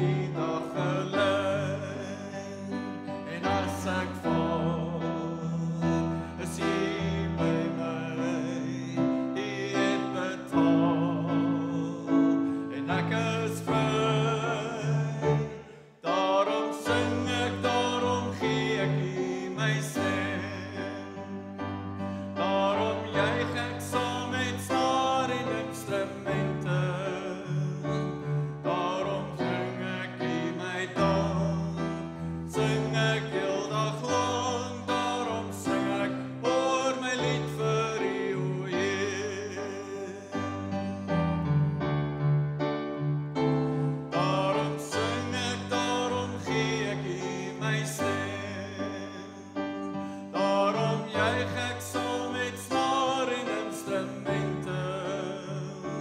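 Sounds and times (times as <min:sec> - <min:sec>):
voices singing worship song: 0:00.0 - 0:41.4, 0:43.6 - 0:56.0.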